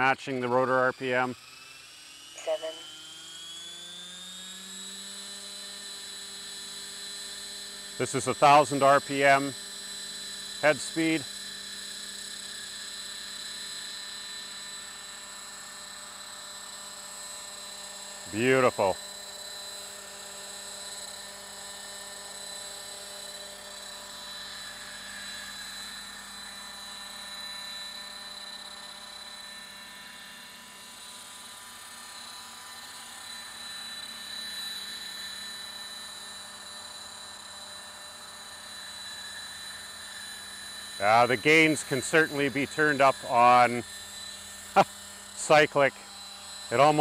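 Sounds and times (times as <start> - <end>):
rc helicopter high-pitched whine: 0.0 - 47.0.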